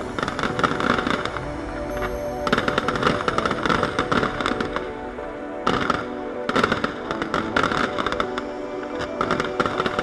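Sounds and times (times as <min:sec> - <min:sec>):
fireworks bangs and crackling: 0:00.0 - 0:05.0, 0:05.6 - 0:10.0
music: 0:00.0 - 0:10.0.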